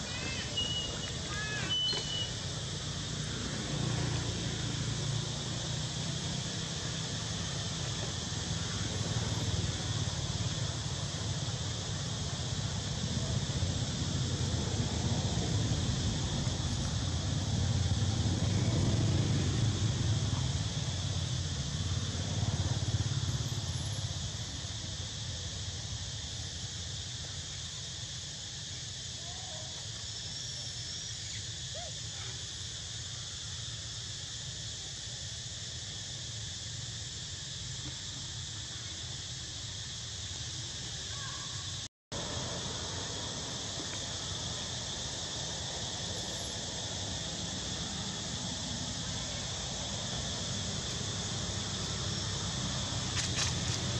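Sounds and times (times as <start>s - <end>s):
insect chorus buzzing: 0.0s - 53.9s.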